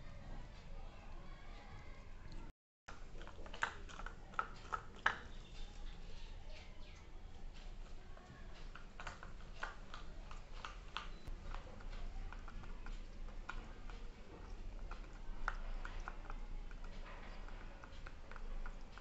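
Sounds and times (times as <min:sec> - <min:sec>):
pigeons pecking grain in metal bowl: 0:02.9 - 0:19.0.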